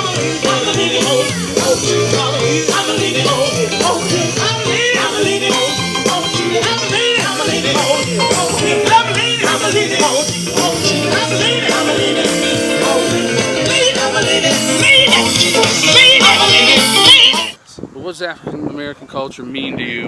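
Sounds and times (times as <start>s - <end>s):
live band with singing: 0.0s - 17.6s.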